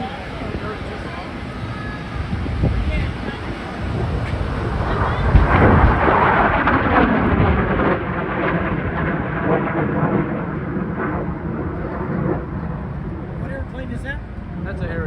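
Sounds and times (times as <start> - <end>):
jet aircraft roaring past: 0.0 - 15.0.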